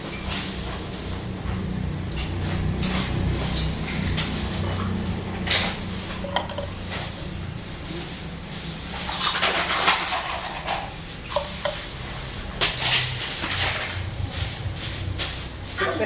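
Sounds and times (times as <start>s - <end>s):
small objects clattering: 0.0s - 16.0s.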